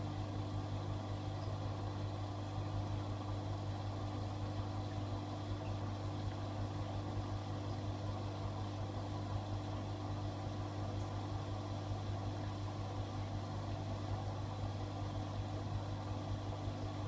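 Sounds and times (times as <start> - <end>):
washing machine low hum: 0.0 - 17.0.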